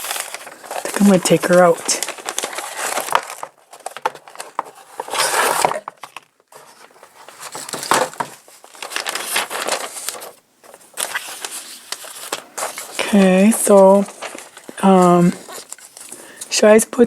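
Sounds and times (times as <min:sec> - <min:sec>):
paper wrapping crinkling: 0:00.0 - 0:16.8.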